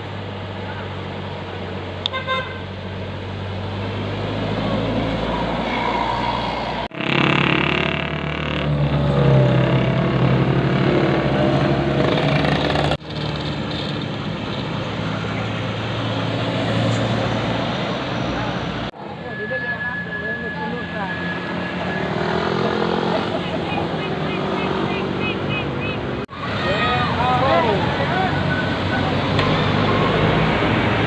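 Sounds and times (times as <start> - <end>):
bus engines running: 0.0 - 31.0.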